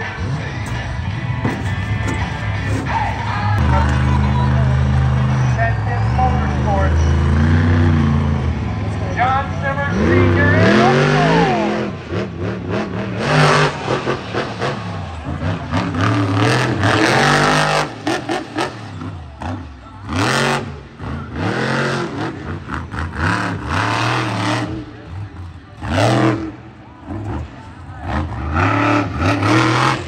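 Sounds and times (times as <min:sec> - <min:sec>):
monster truck engines revving: 0:00.0 - 0:30.0.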